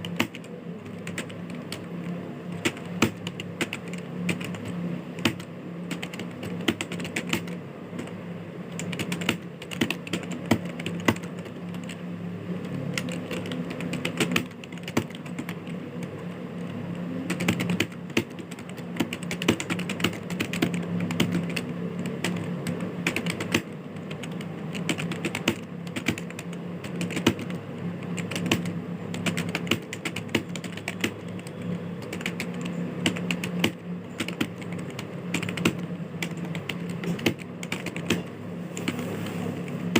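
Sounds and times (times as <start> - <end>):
keyboard typing: 0.0 - 39.9
steady low hum: 0.0 - 39.9.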